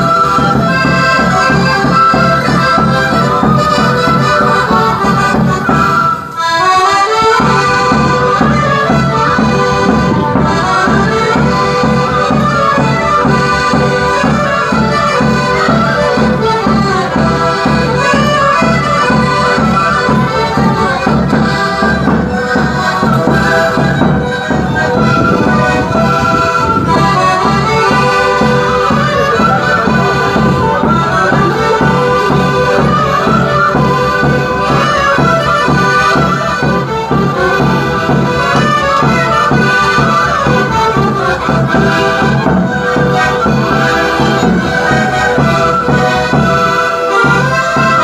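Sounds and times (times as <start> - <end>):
folk band dance music: 0.0 - 48.0.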